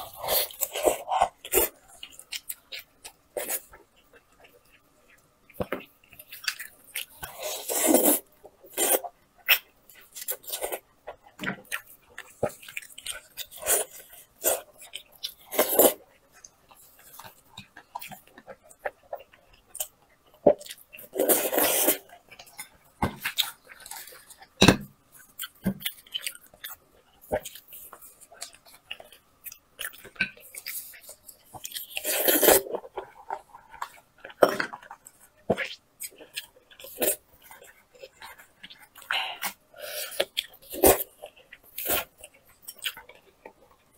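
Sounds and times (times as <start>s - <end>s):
wet chewing and smacking: 8.2s - 43.9s.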